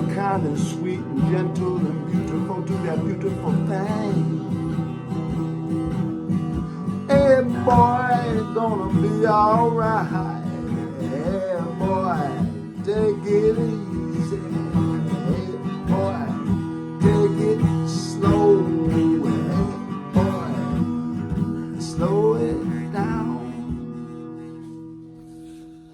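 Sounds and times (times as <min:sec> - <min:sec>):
acoustic guitar strumming: 0:00.0 - 0:25.9.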